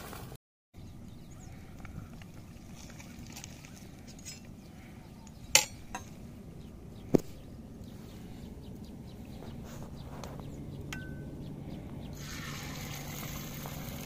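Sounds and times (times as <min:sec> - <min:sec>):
faint steady hum: 0:00.8 - 0:14.0.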